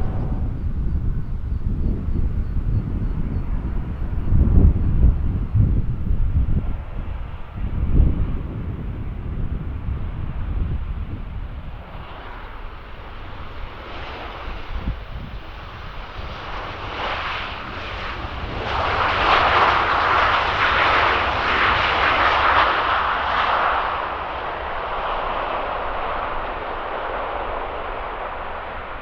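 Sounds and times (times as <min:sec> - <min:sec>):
jet aircraft passing: 0:00.0 - 0:29.0.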